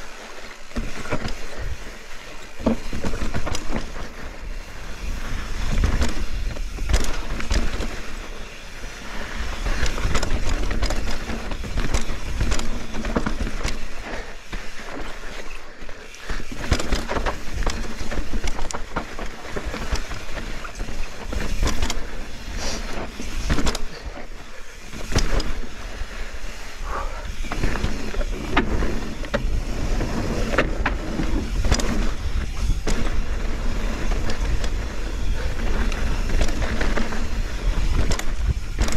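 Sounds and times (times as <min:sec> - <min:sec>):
bike rattling over bumps: 0:00.0 - 0:38.9
tyres on gravel: 0:00.0 - 0:38.9.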